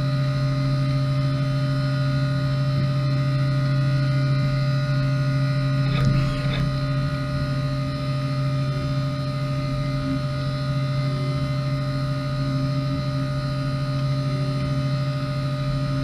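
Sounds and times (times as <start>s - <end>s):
cnc mill humming: 0.0s - 16.0s.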